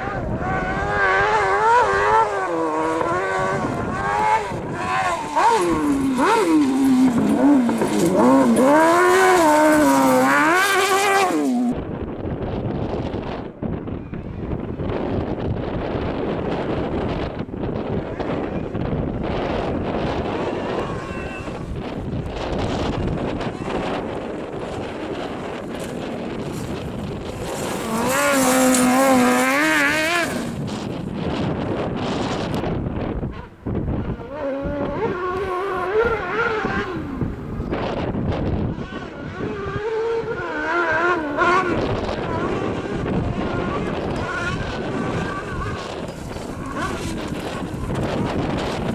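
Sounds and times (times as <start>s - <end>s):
racing engine at high revs: 0.0s - 11.9s, 15.8s - 48.9s
wind buffeting microphone: 0.0s - 48.9s.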